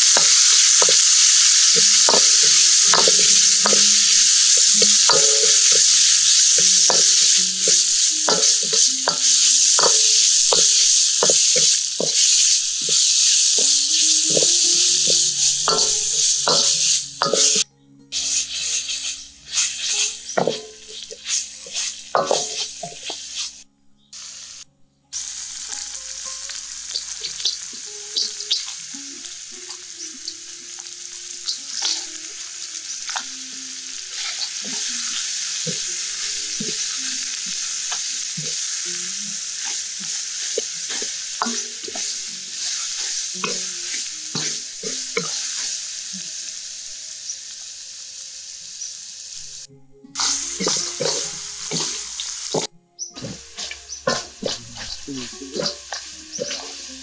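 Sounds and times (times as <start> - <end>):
metal ladle scraping wok: 0.0 - 23.6, 30.8 - 46.3, 50.2 - 57.0
food sizzling in hot oil: 0.0 - 57.0.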